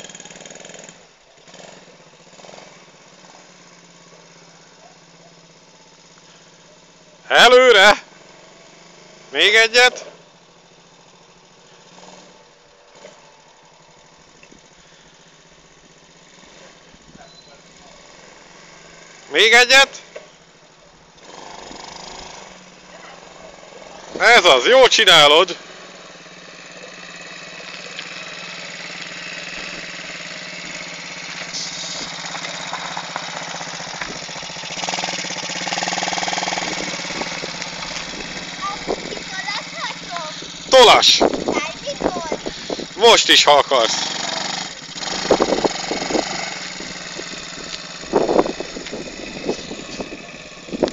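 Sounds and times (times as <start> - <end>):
distant quad bike engine: 0.0 - 50.9.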